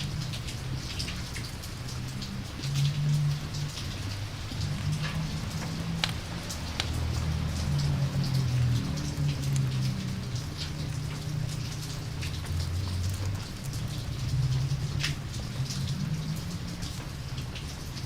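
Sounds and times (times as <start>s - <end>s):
steady rain: 0.0s - 18.0s
campfire crackling and popping: 0.4s - 17.7s.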